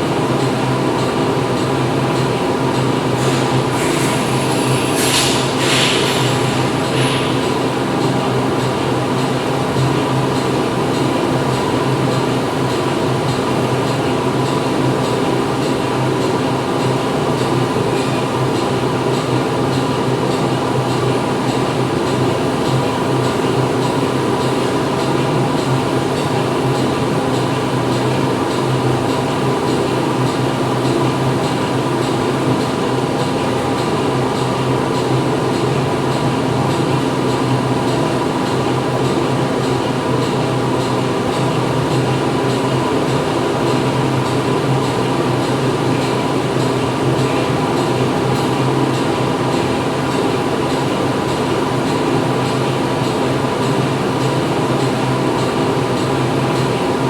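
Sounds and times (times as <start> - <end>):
factory machinery running: 0.0 - 57.0.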